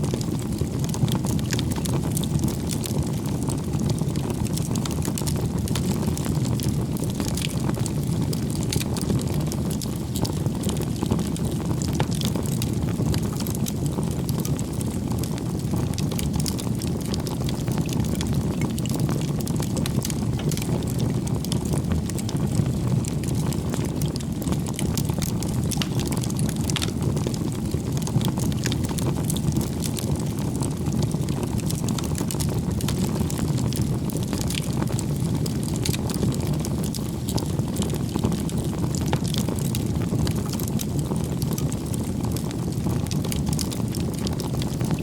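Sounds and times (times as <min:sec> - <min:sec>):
bonfire crackling: 0:00.0 - 0:45.0.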